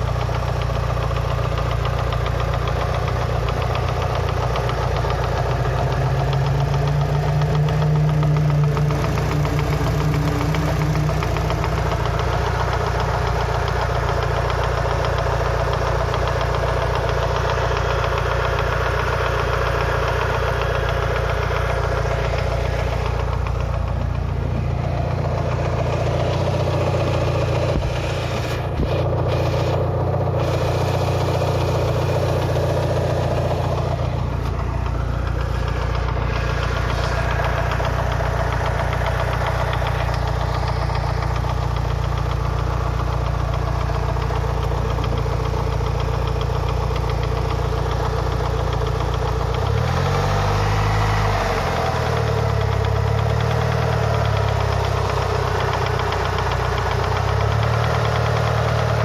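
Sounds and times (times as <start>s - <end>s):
car engine idling: 0.0s - 59.0s
engine knocking: 0.0s - 59.0s.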